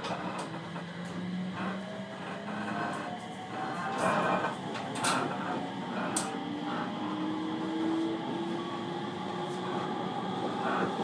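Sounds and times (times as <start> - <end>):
electric train motor whine: 0.0 - 11.0
train rumble: 0.0 - 11.0.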